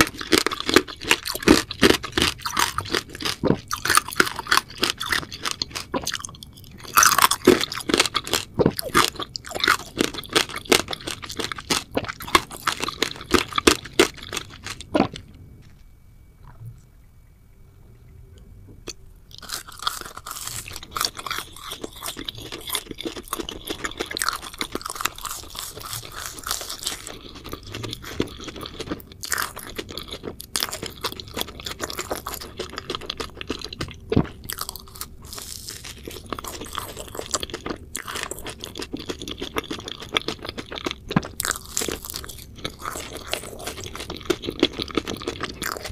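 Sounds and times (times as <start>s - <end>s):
crunching and chewing candy: 0.0s - 16.8s, 18.8s - 45.9s.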